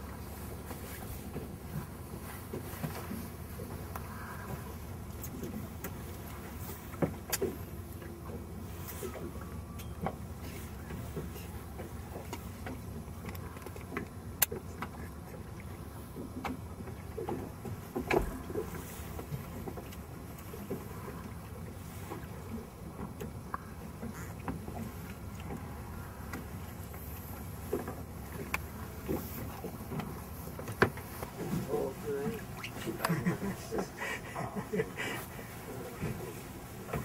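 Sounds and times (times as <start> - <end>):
boat engine humming: 0.0 - 37.0.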